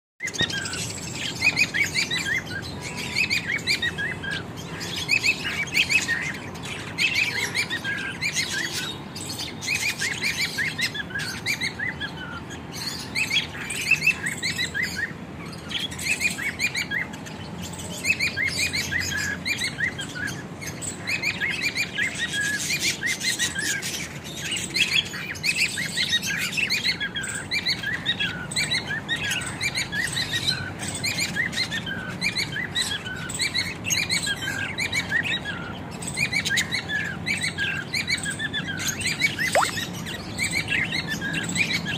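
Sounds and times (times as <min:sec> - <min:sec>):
budgerigars chattering: 0:00.2 - 0:41.9.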